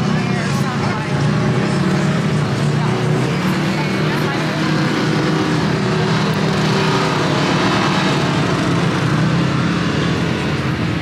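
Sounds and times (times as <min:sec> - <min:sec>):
off-road vehicle engines humming: 0:00.0 - 0:11.0.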